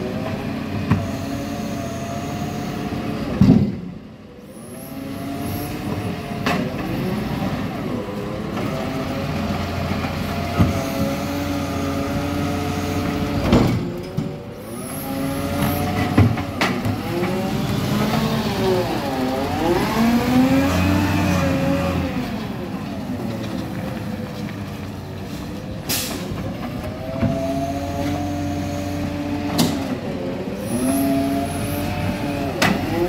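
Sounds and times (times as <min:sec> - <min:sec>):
garbage truck diesel engine revving: 0:04.5 - 0:24.0, 0:25.8 - 0:33.0.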